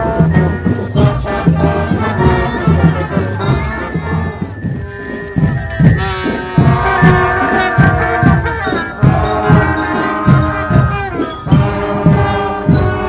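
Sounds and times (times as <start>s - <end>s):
marching drum band playing: 0.0s - 13.0s
steady drum beat: 0.0s - 13.0s.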